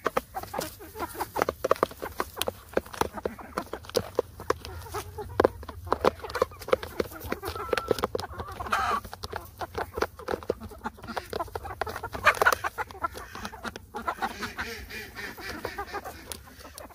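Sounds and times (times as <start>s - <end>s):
beaks tapping plastic: 0.0s - 16.9s
hens clucking: 0.0s - 16.9s.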